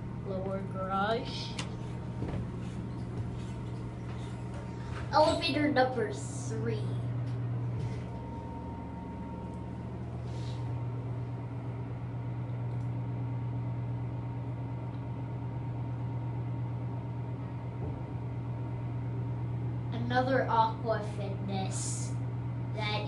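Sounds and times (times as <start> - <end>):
elevator hum: 0.0 - 23.0.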